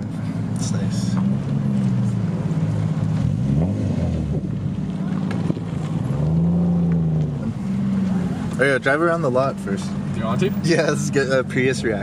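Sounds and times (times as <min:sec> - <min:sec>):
car engine revving: 0:00.0 - 0:12.0
car engines running: 0:00.0 - 0:12.0.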